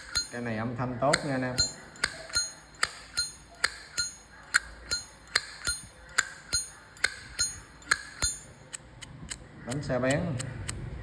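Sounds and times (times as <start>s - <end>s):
lighter lid clicking open and shut: 0.0s - 0.4s, 1.2s - 10.8s.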